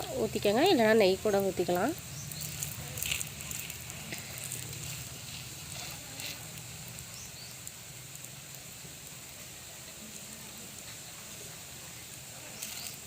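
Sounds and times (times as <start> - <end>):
batter sizzling on hot pan: 0.0 - 13.0
fat crackling: 0.0 - 13.0.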